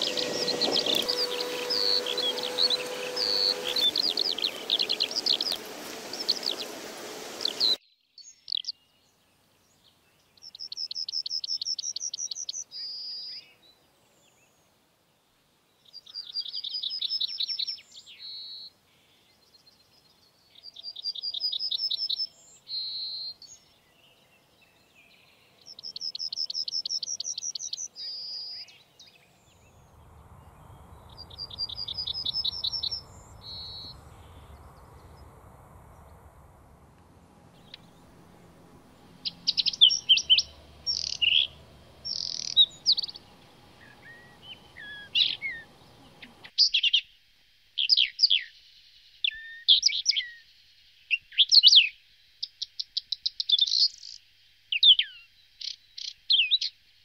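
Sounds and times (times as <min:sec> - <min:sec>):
background hiss: 0:00.0 - 0:07.8, 0:08.9 - 0:57.0
birds chirping: 0:00.0 - 0:14.6, 0:15.8 - 0:47.0.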